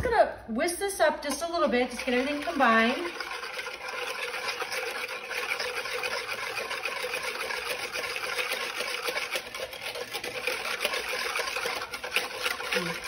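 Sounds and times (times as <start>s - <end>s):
whisk beating dressing in bowl: 1.1s - 13.0s.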